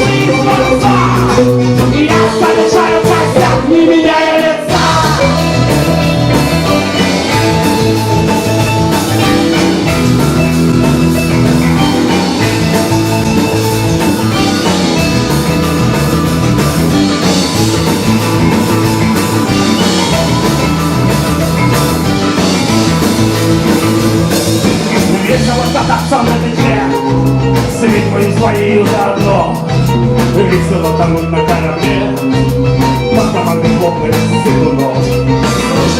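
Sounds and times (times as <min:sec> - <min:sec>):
rock band instrumental: 0:00.0 - 0:35.9.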